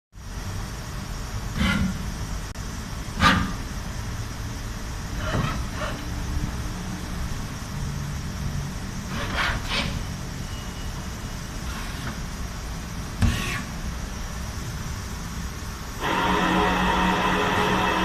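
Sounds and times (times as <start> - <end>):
machine-shop rumble: 0.2 - 18.0.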